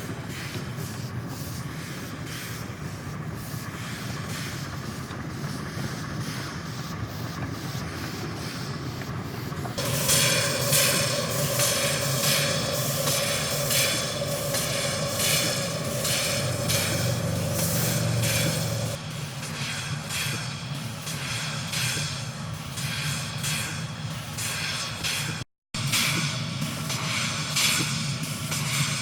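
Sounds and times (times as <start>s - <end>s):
locomotive exhaust pulses: 0.0s - 29.0s
steam hiss: 0.0s - 29.0s.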